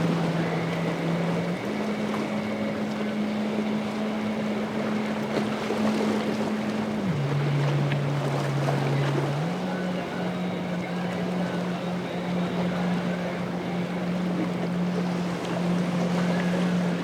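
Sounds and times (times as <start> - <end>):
motorboat engine: 0.0 - 17.0
waves washing: 0.0 - 17.0.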